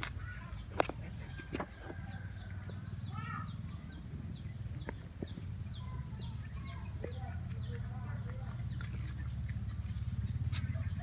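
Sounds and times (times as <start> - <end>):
low steady rumble: 0.0 - 11.0
bird chirping: 0.2 - 11.0.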